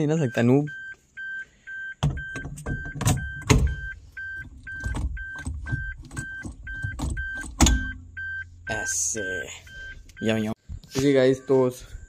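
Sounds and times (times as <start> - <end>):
short electronic beeps: 0.2 - 12.0.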